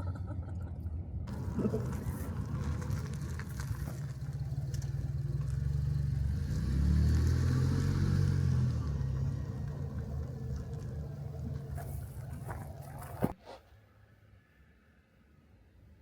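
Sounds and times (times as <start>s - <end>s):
vehicle engine rumbling: 0.0s - 13.4s.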